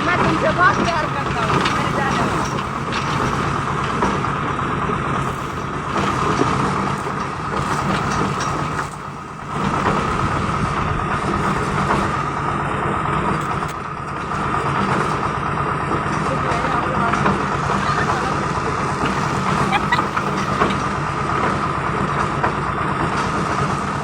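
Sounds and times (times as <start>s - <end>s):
concrete mixer running: 0.0s - 24.0s.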